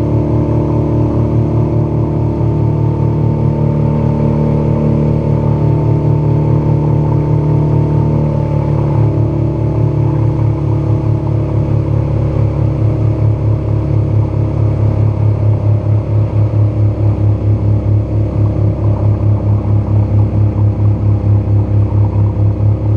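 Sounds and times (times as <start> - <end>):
outboard motor running: 0.0 - 22.9
water rushing along hull: 0.0 - 22.9.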